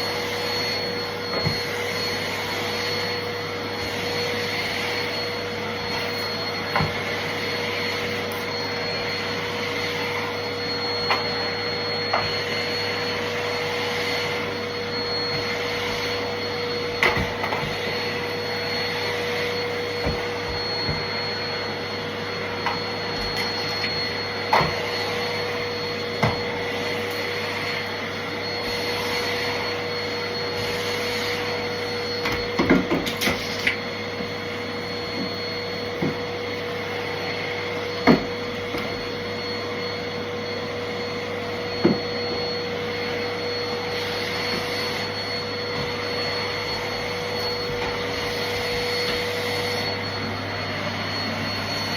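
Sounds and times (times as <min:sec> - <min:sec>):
vacuum cleaner whining: 0:00.0 - 0:51.9.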